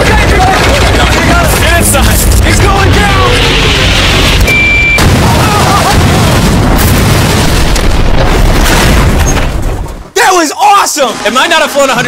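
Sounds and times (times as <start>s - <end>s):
loud rumbling explosion: 0.0s - 10.1s.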